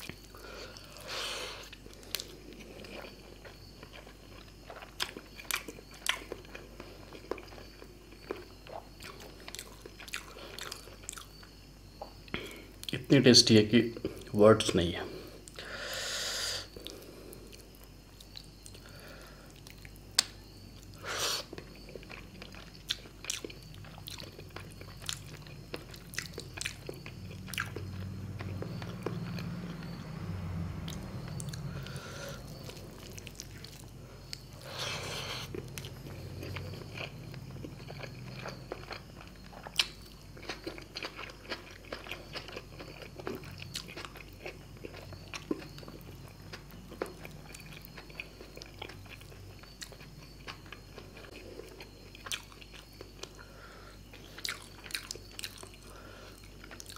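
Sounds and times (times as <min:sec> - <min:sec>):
wet chewing: 0:00.0 - 0:13.0, 0:16.8 - 0:30.0, 0:30.8 - 0:56.9.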